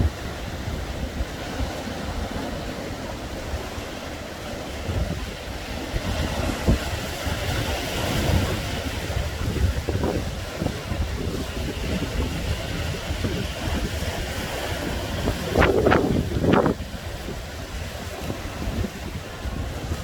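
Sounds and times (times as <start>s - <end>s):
sea waves breaking on shore: 0.0s - 20.0s
wind buffeting microphone: 0.0s - 20.0s.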